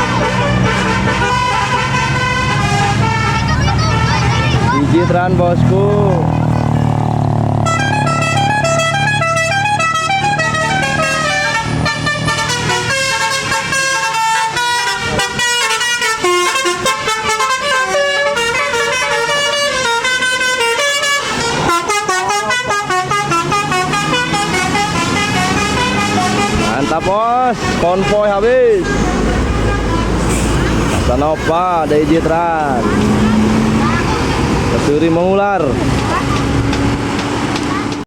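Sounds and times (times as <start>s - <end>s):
musical bus horn melody: 0.0s - 6.8s, 7.5s - 31.6s
low rumble of passing buses: 0.0s - 38.0s.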